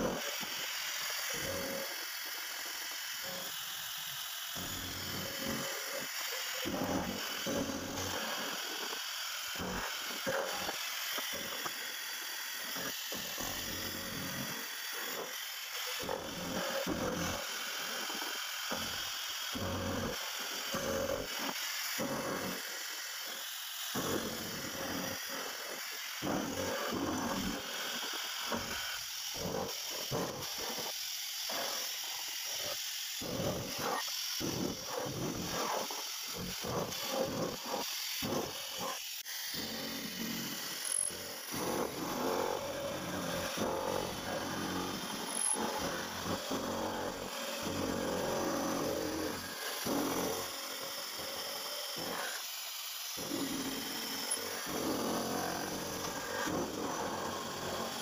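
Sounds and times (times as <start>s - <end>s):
milling machine cutting steel: 0.0s - 58.0s.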